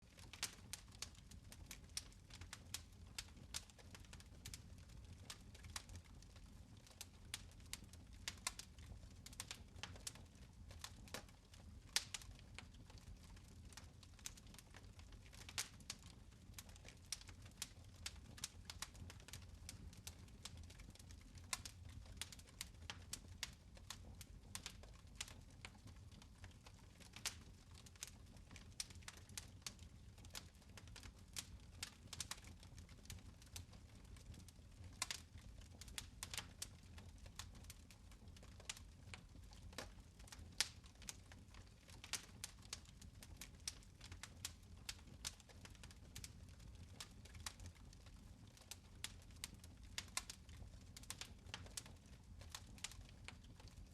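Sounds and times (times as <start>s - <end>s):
fire crackling and popping: 0.0s - 53.9s.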